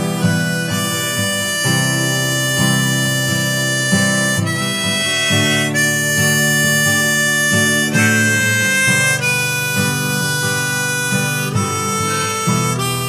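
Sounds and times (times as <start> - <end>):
acoustic guitar accompaniment: 0.0 - 13.0
lead line of held notes: 0.0 - 13.0.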